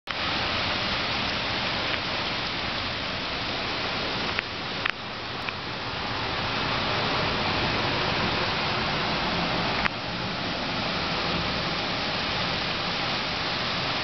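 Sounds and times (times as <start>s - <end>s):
heavy rain pouring: 0.1s - 14.0s.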